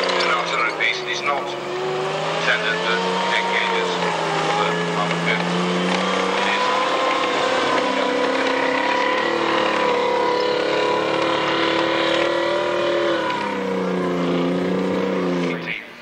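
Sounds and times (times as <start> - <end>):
tracked vehicle engine passing: 0.0 - 16.0.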